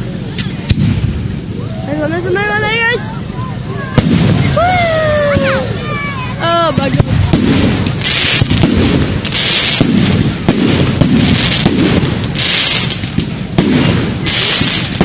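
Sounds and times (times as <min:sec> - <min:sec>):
fireworks bangs: 0:00.0 - 0:15.0
fireworks hissing: 0:00.0 - 0:15.0
low rumble: 0:00.0 - 0:15.0.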